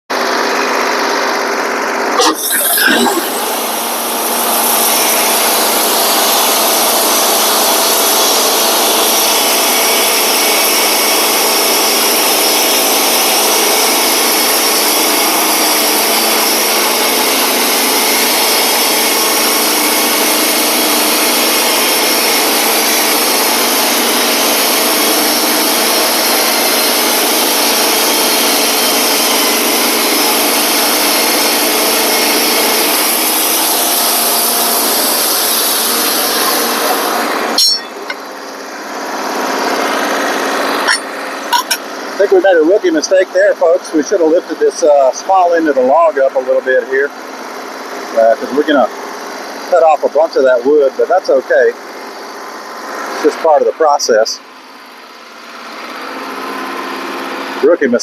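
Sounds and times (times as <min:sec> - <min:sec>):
band sawmill cutting log: 0:00.1 - 0:58.0.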